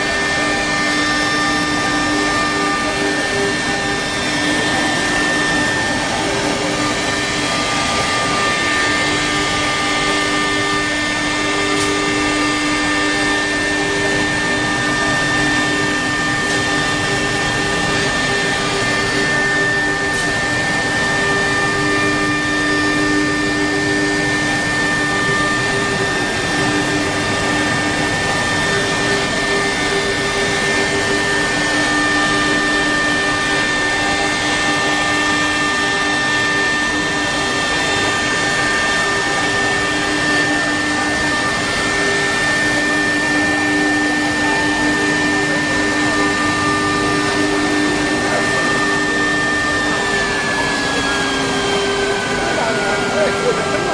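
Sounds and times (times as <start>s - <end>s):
cnc spindle whine: 0.0s - 53.9s.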